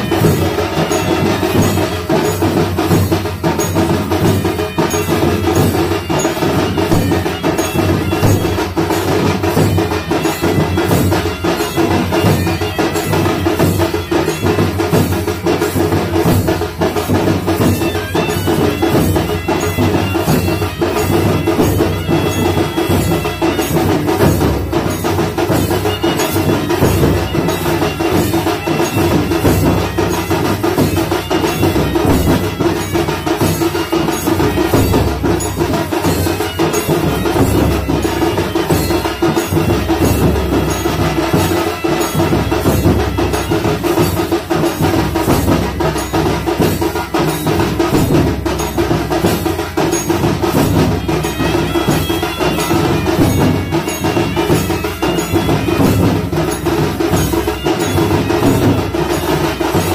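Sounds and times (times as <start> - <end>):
fast drumming: 0.0 - 59.9.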